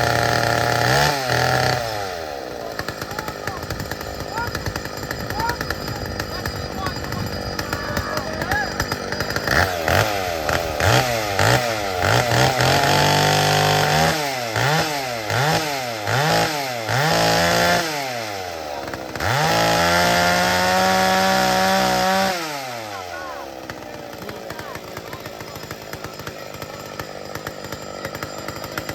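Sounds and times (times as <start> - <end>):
chainsaw revving and idling: 0.0 - 28.9.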